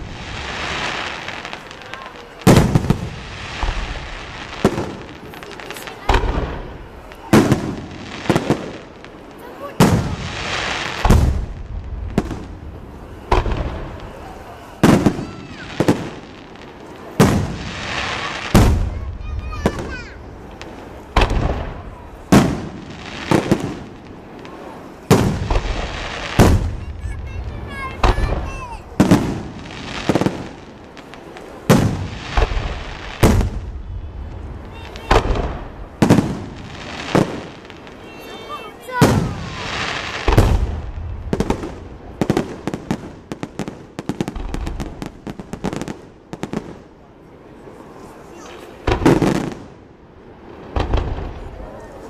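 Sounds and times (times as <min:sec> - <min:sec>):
fireworks bursting with echo: 0:00.0 - 0:52.0.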